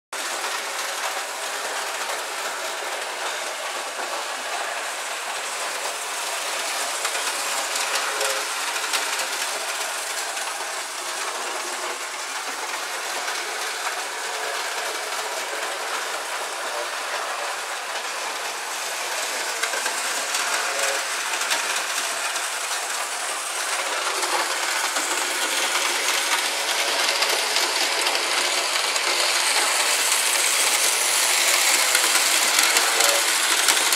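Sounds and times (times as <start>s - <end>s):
model train wheels clattering: 0.2s - 33.9s.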